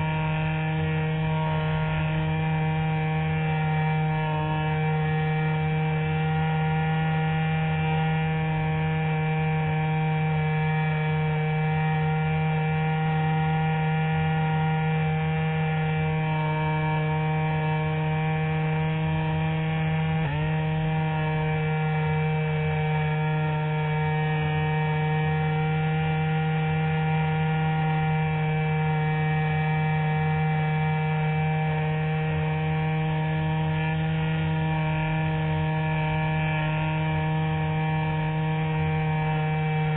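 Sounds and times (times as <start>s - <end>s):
electric motor and propeller hum: 0.0s - 39.9s.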